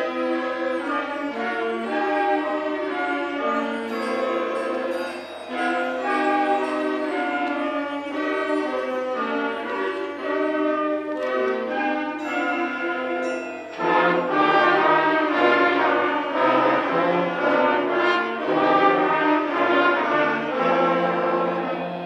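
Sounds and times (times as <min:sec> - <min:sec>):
school concert band playing chords: 0:00.0 - 0:22.0.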